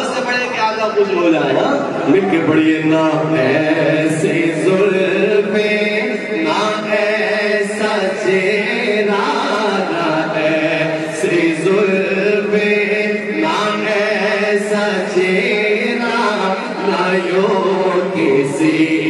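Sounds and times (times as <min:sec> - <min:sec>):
man singing unaccompanied: 0:02.1 - 0:19.0.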